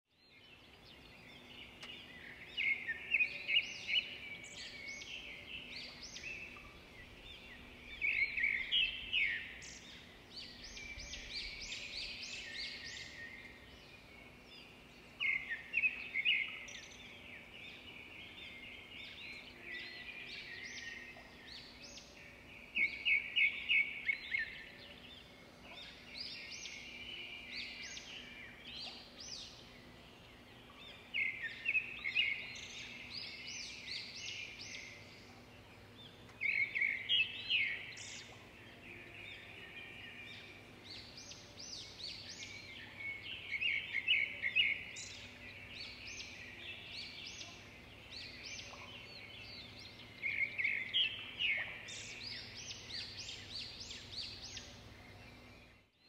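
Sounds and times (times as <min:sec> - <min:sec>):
faint steady background noise: 0:00.1 - 0:56.0
songbirds chirping: 0:00.1 - 0:56.0.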